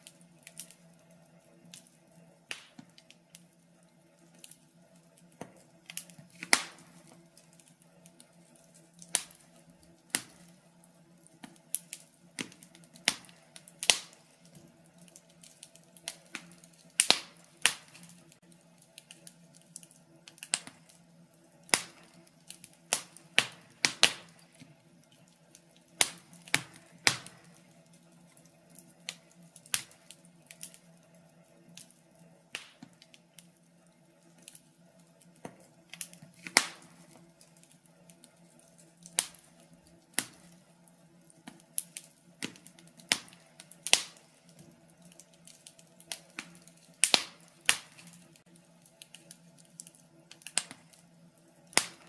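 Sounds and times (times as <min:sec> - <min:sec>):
faint steady hum: 0:00.0 - 0:52.0
wood fire crackling: 0:00.0 - 0:52.0.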